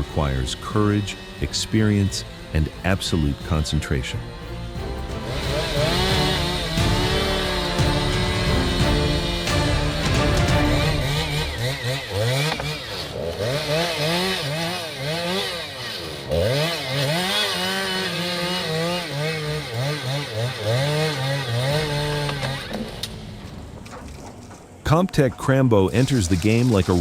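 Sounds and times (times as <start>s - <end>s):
chainsaw cutting log: 0.0s - 24.8s, 25.9s - 27.0s.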